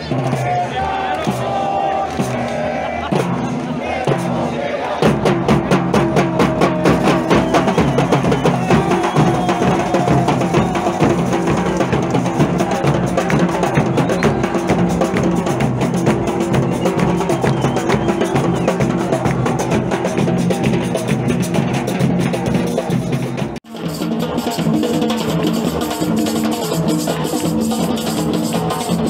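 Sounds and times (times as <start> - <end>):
hand drums and bass drum: 0.0 - 29.0.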